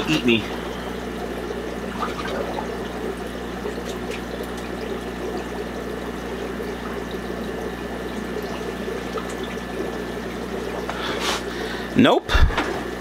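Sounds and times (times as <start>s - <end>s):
water bubbling in fish tank: 0.0s - 12.0s, 12.7s - 13.0s
faint steady hum: 0.0s - 13.0s.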